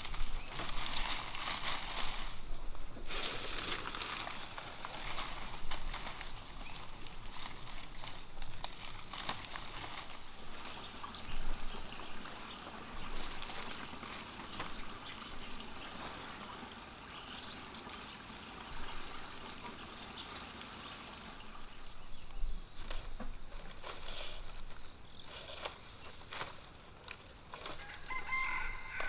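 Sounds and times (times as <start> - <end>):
palm fronds rustling: 0.0 - 29.0.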